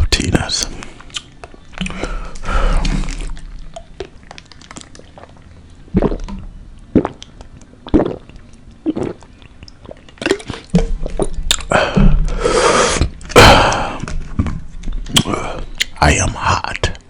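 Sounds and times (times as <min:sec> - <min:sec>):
wet mouth sounds: 0:00.9 - 0:14.1, 0:15.1 - 0:16.0.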